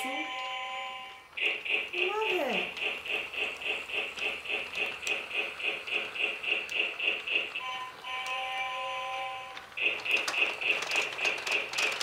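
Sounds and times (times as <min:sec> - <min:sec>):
toy train electronic chugging: 0:00.0 - 0:12.0.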